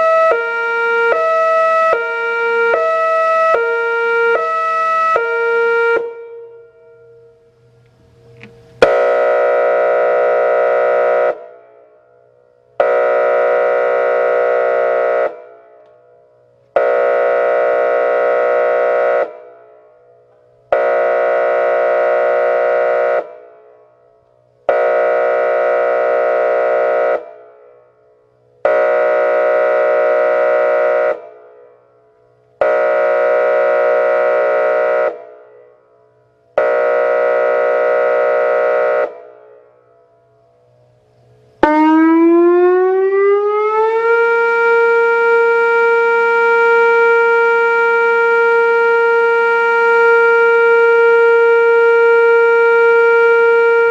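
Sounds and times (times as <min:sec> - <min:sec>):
pulsed warning siren: 0:00.0 - 0:53.9.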